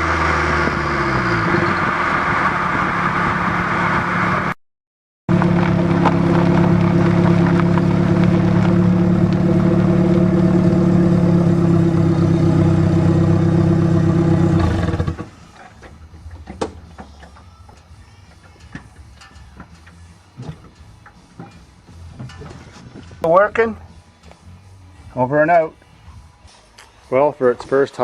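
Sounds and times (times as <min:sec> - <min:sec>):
car exhaust droning: 0:00.0 - 0:04.6, 0:05.3 - 0:23.9.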